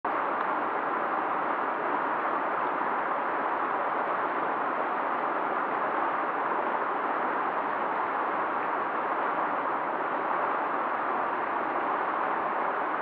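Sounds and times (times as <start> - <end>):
fast-flowing river rushing: 0.1 - 13.0.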